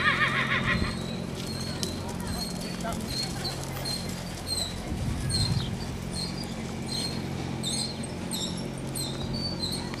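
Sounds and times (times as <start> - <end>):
small birds chirping: 0.7 - 10.0.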